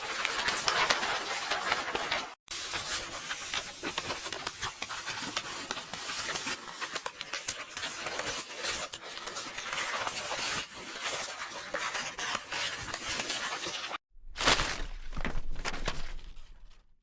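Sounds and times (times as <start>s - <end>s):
paper rustling: 0.0s - 16.8s.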